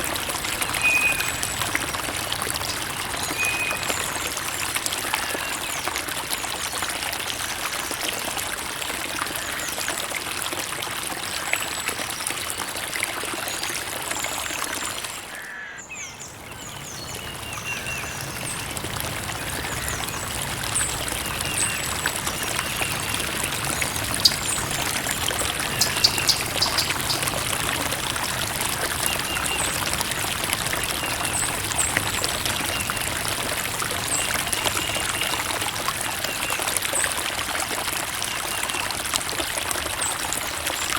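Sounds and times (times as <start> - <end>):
creek water trickling: 0.0 - 40.9.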